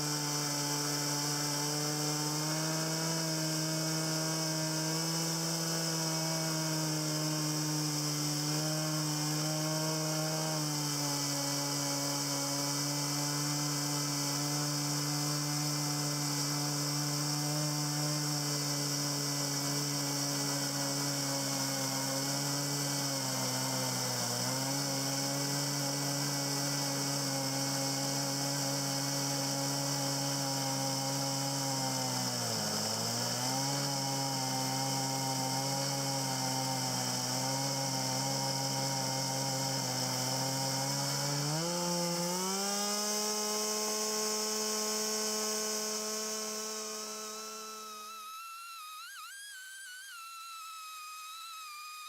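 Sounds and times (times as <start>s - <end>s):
chainsaw cutting a log: 0.0s - 52.0s.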